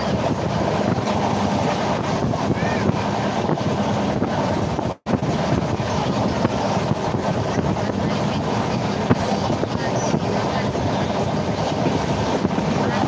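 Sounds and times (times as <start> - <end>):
train carriage rumbling and rattling: 0.0 - 13.0
wind buffeting microphone: 0.0 - 13.0.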